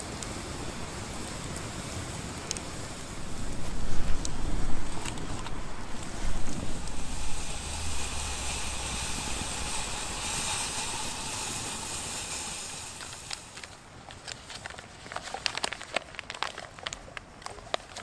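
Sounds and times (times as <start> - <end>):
campfire hissing: 0.0 - 14.6
fire crackles and clicks: 0.0 - 18.0.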